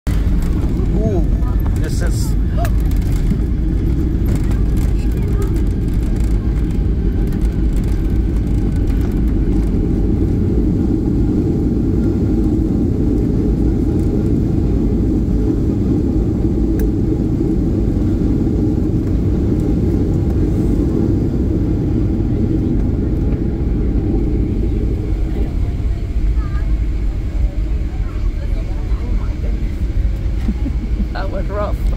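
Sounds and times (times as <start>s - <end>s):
airliner cabin low rumble: 0.1s - 31.9s.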